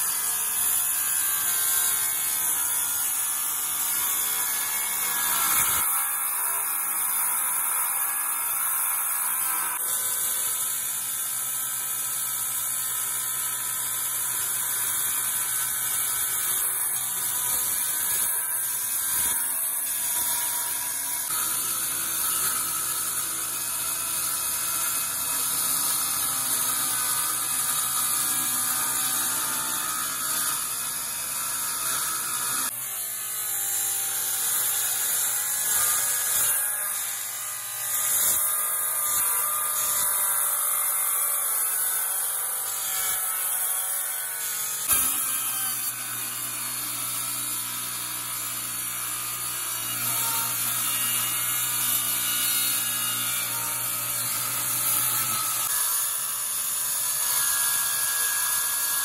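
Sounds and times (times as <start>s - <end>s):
circular saw cutting plywood: 0.0s - 59.0s.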